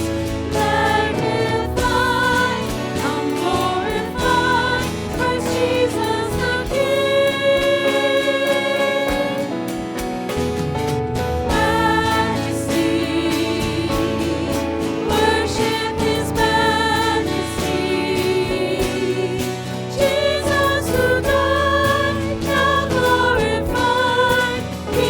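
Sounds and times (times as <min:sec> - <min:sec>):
voices singing with vibrato: 0:00.0 - 0:09.9, 0:11.5 - 0:25.0
instrumental accompaniment: 0:00.0 - 0:25.0.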